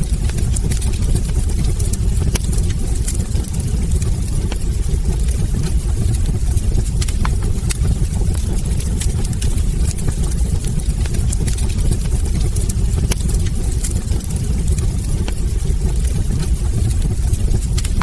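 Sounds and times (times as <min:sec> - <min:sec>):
low rumble of flame: 0:00.0 - 0:18.0
wood crackling and popping: 0:00.0 - 0:18.0.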